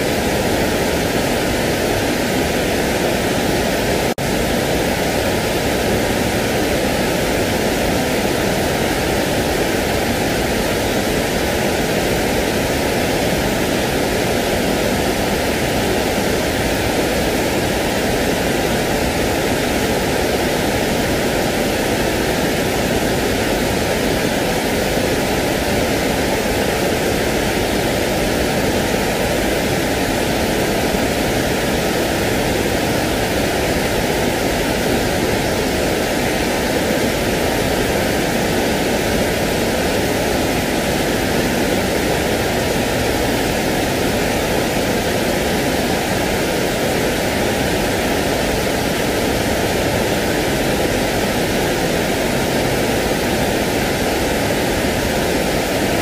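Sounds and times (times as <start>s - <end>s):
steady white noise hiss: 0.0s - 56.0s.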